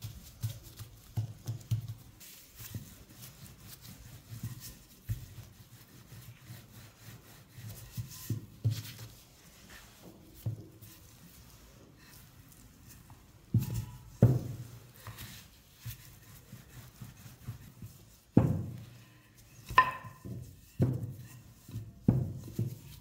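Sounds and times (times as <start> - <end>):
hands patting dough: 0.0 - 23.0
rolling pin rolling dough: 0.0 - 23.0.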